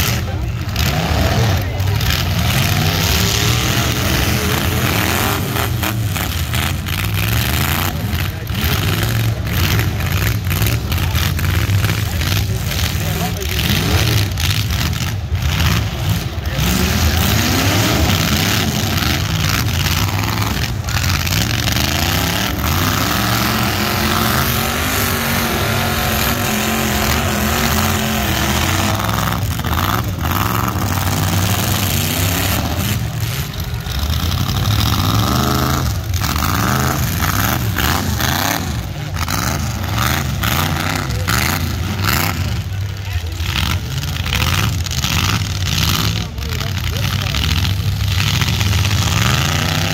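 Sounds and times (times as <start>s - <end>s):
car engines revving hard: 0.0s - 49.9s.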